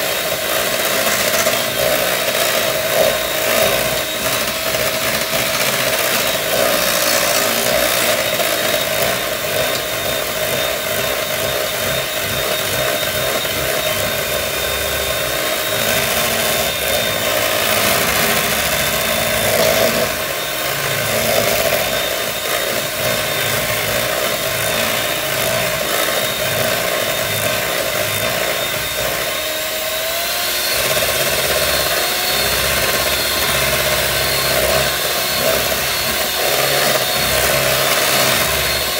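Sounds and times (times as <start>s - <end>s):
electric mixer whining: 0.0s - 38.9s.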